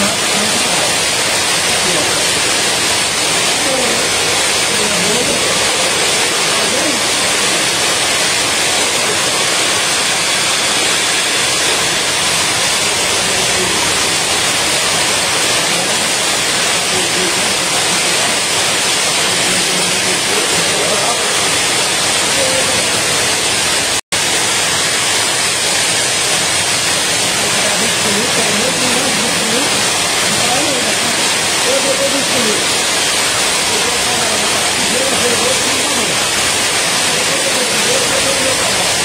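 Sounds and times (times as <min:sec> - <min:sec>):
heavy rain pouring: 0:00.0 - 0:39.0
water streaming off a roof: 0:00.0 - 0:39.0.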